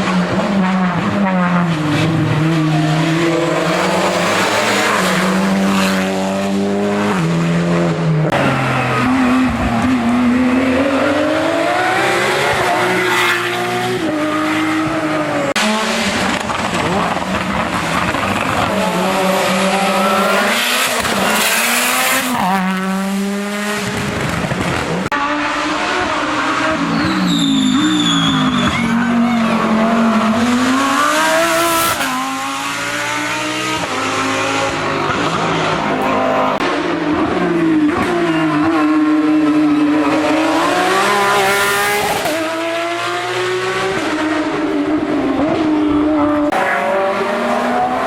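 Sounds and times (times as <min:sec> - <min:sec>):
race car engines revving: 0:00.0 - 0:48.0.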